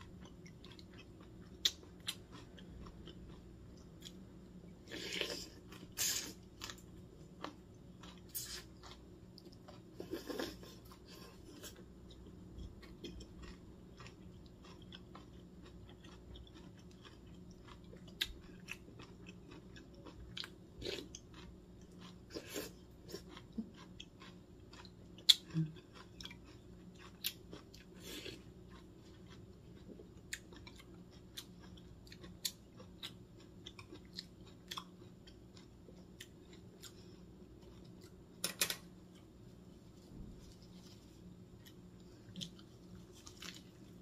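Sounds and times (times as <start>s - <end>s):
crunching of crisp vegetables: 0.1s - 38.2s, 40.1s - 44.0s.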